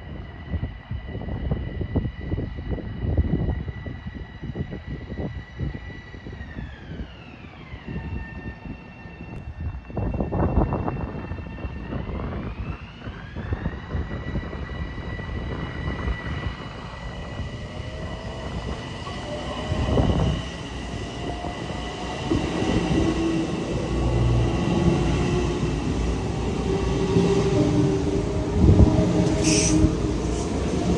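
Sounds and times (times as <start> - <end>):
train rumbling past with whine: 0.0 - 30.9.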